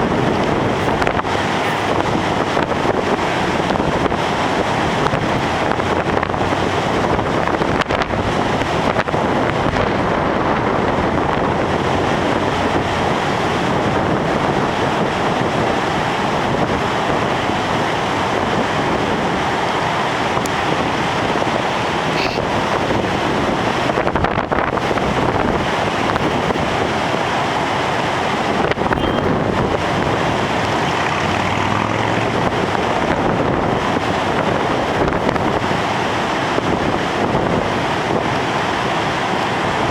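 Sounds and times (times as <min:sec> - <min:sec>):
heavy ocean surf: 0:00.0 - 0:39.9
wind buffeting microphone: 0:00.0 - 0:39.9.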